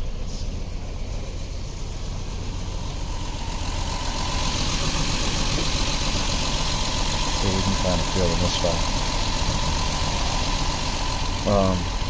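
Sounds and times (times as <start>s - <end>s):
engine idling with misfire: 0.0s - 12.0s.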